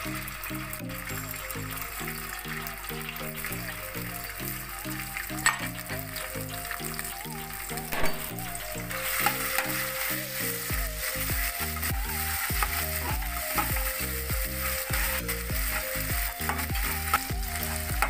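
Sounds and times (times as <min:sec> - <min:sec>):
instrumental background music: 0:00.0 - 0:18.0
paste sizzling in hot oil: 0:00.0 - 0:18.0.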